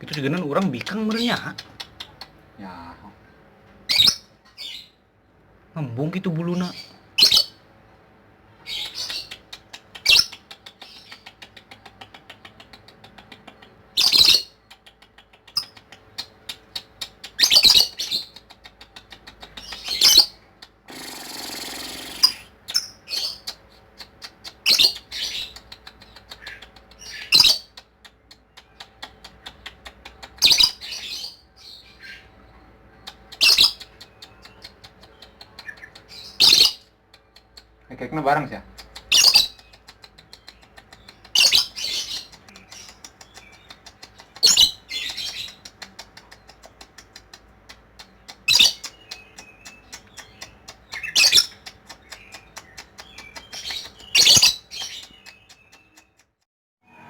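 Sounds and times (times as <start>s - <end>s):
bird chirping: 0.0s - 5.1s, 5.8s - 8.0s, 8.6s - 56.3s.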